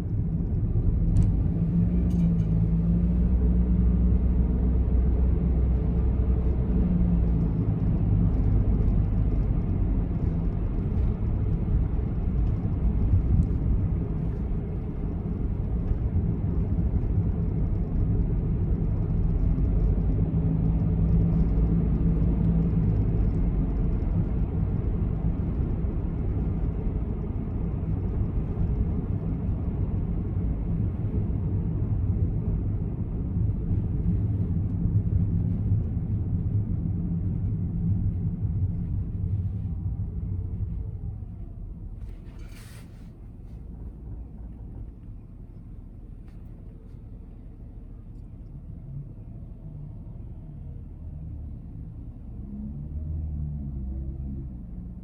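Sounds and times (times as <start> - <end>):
car engine rumble from inside: 0.0 - 55.0.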